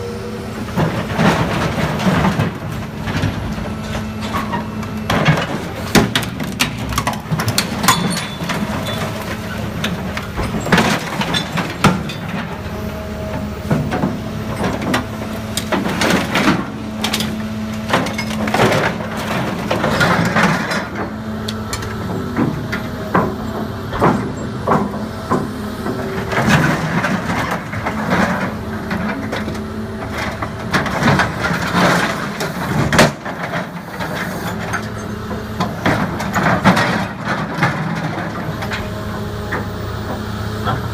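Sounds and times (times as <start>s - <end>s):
heavy diesel machinery running: 0.0s - 40.9s
metal bangs and creaks: 0.7s - 38.9s.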